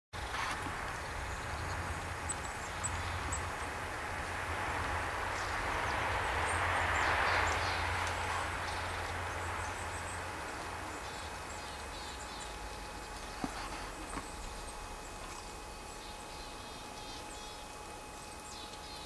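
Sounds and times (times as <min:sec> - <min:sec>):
low outdoor rumble: 0:00.2 - 0:19.0.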